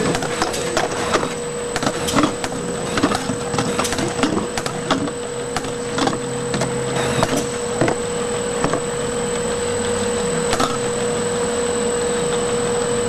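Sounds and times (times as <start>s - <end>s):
packaging machinery humming: 0.0s - 13.0s.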